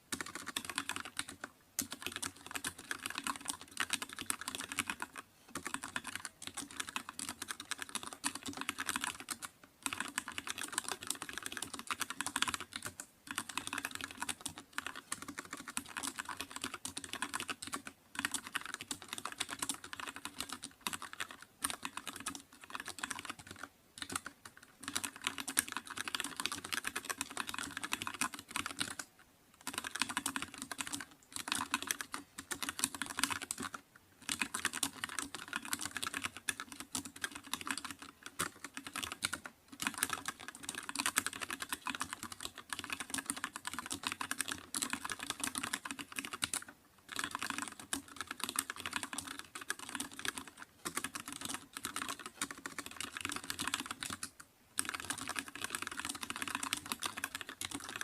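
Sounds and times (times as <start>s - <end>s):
typing on computer keyboard: 0.1s - 58.0s.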